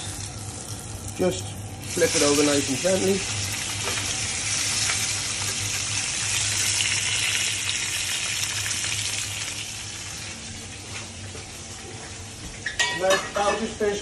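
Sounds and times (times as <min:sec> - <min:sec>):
fish sizzling in hot oil: 0:00.0 - 0:11.3.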